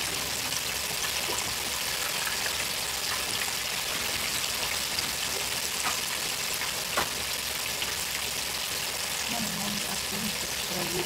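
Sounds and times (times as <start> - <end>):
bubbling sizzle with crackles: 0.0 - 11.0
meat deep-frying in oil: 0.0 - 11.0.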